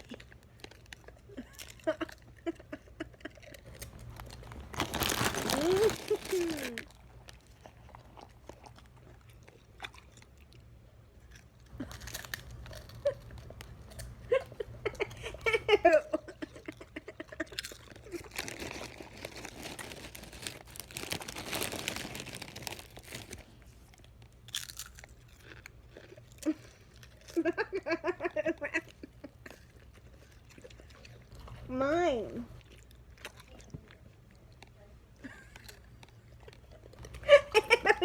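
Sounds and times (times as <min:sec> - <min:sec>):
potato chips crunching: 0:00.0 - 0:10.6, 0:11.2 - 0:15.1, 0:16.3 - 0:27.6, 0:32.6 - 0:38.0.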